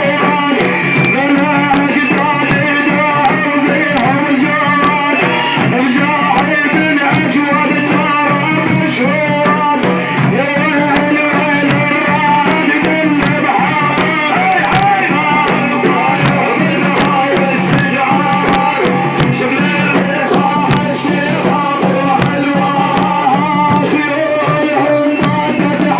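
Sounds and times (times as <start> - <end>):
drum strokes: 0.0 - 25.9
person chanting over music: 0.0 - 25.9.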